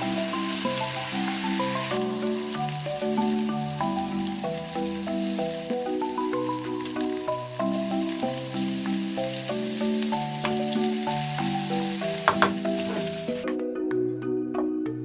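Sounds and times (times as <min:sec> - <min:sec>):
meat sizzling in a frying pan: 0:00.0 - 0:13.4.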